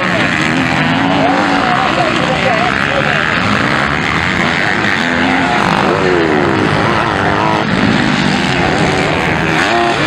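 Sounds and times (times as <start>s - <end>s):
motocross bikes revving past: 0.0s - 10.0s.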